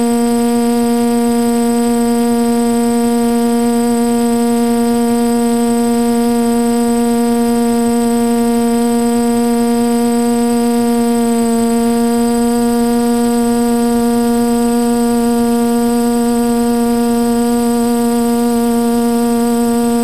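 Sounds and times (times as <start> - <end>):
drone motors buzzing hum: 0.0 - 20.0.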